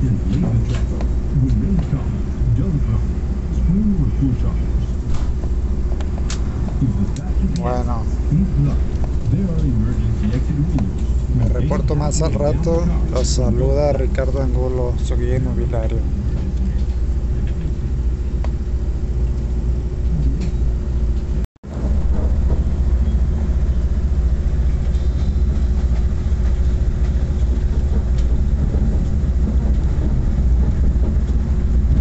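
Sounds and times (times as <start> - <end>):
constant hum: 0.0 - 32.0
train wheels rumbling on rails: 0.0 - 32.0.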